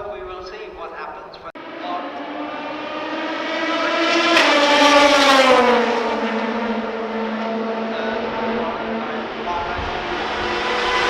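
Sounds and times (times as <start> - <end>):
race car passing at speed: 1.6 - 11.0.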